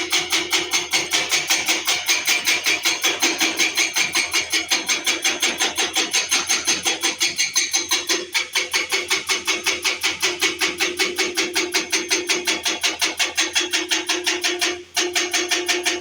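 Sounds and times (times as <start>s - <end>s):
road-work machine pounding: 0.0s - 16.0s.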